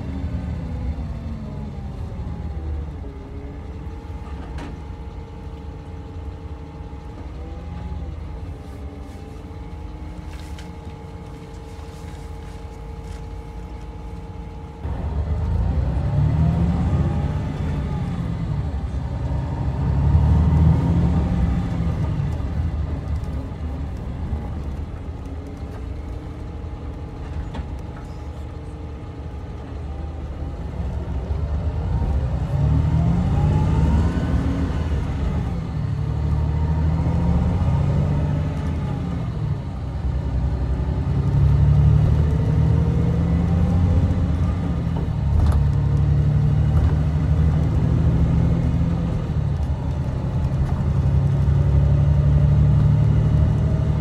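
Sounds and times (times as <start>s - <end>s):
coach diesel engine: 0.0s - 54.0s
road noise: 0.0s - 54.0s.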